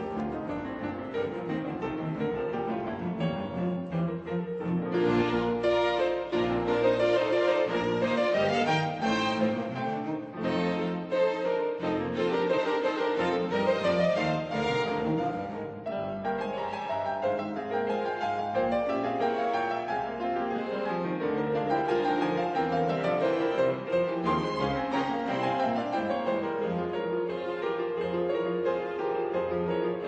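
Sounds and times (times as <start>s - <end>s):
piano: 0.0s - 30.0s
strings: 0.0s - 30.0s.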